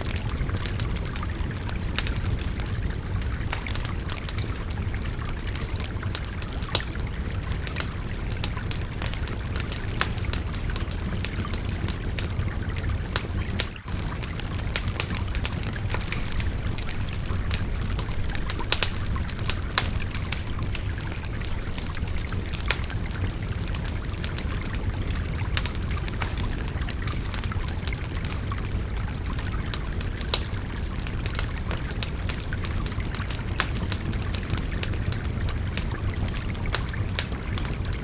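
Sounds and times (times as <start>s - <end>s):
wood fire crackling: 0.0s - 38.0s
river babbling: 0.1s - 33.3s.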